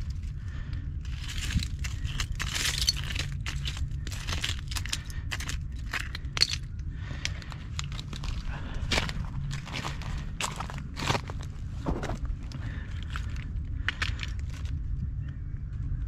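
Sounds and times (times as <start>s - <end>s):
shells crunching and clinking: 0.0s - 11.7s, 12.4s - 14.8s.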